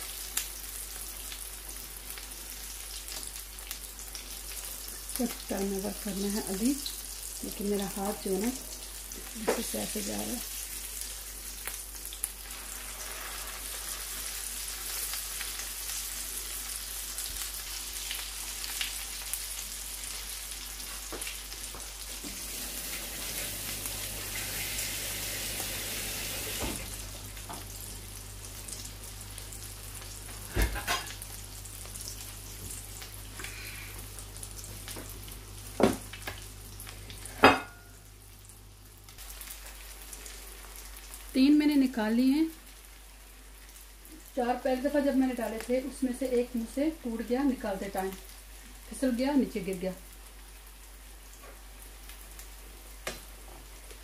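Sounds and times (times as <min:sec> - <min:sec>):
oil sizzling in frying pan: 0:00.0 - 0:54.0.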